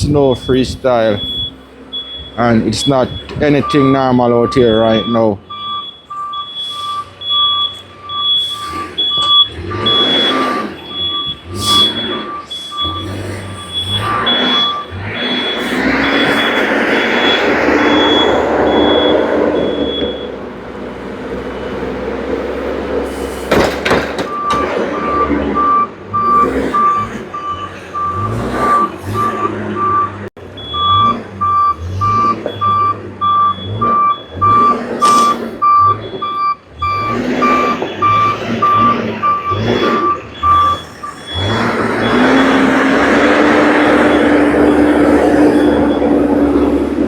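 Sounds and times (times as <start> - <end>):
reversing alarm beeping: 0.0 - 20.6, 23.5 - 47.0
diesel engine running: 0.0 - 47.0.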